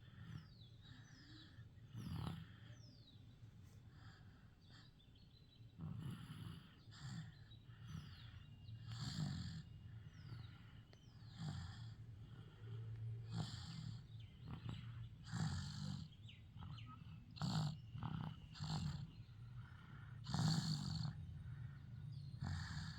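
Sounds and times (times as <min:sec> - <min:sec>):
snoring with rough breaths: 0:00.0 - 0:02.9, 0:05.7 - 0:22.9.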